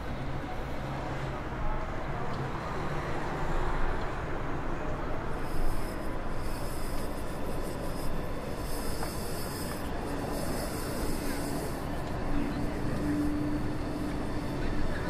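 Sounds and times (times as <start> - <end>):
city traffic rumble: 0.0 - 15.0
train approaching: 0.0 - 15.0
wheels squealing on rails: 0.0 - 15.0.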